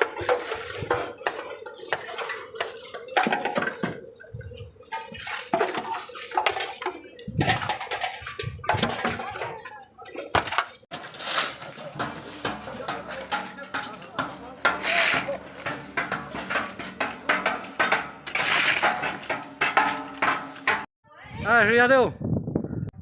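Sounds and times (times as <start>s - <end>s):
hard objects clinking and knocking: 0.0s - 20.9s.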